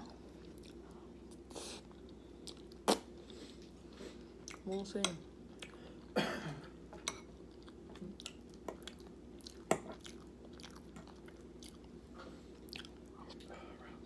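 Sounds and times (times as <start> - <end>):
chewing and wet mouth sounds: 0.0 - 4.7, 5.5 - 6.2, 7.2 - 13.8.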